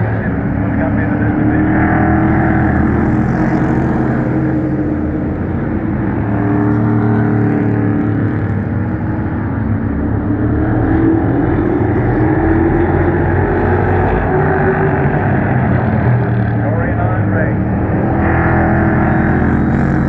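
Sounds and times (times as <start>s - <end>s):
racing truck engines: 0.0s - 20.0s.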